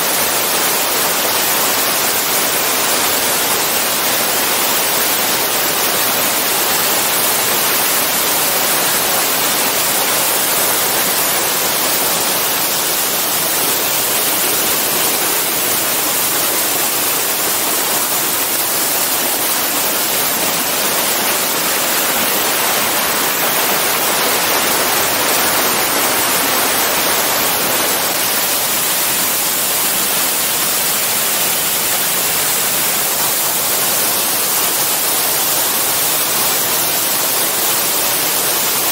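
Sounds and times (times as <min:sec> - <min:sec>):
waterfall rushing: 0:03.8 - 0:35.0.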